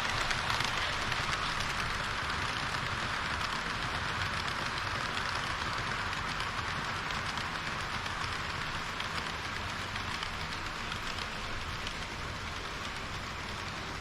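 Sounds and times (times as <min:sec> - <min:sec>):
fine rapid ticking: 0:00.0 - 0:14.0
model train whirring on track: 0:00.0 - 0:14.0.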